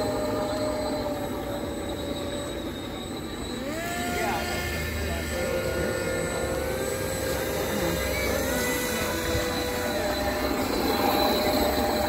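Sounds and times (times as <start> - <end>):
model boat motor whine: 0.0 - 12.0.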